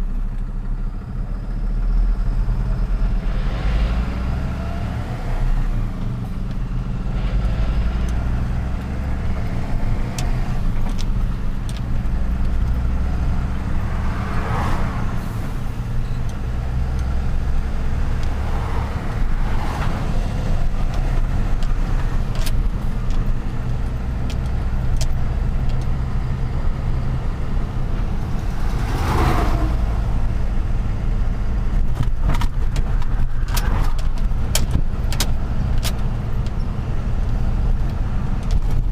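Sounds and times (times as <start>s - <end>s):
road noise: 0.0s - 38.9s
truck engine rumbling: 0.0s - 38.9s.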